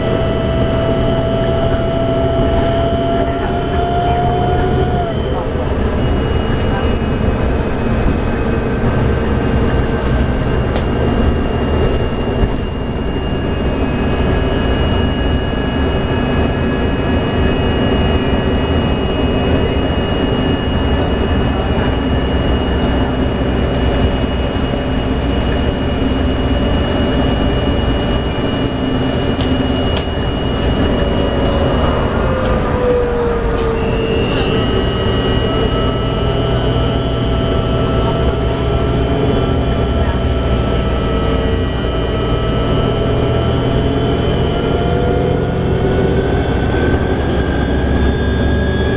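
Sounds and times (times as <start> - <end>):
diesel bus engine drone: 0.0 - 48.9
steady high whine: 0.0 - 48.9.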